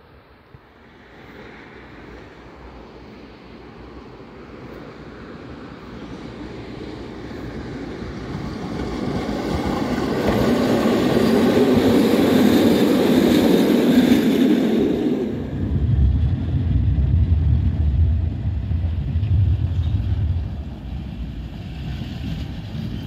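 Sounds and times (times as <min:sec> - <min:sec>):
tram wheels rumbling on rails: 0:00.8 - 0:23.0.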